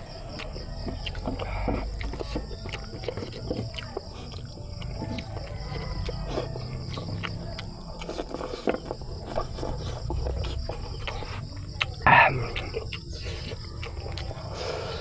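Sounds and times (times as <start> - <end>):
close chewing and wet mouth sounds: 0.0 - 15.0.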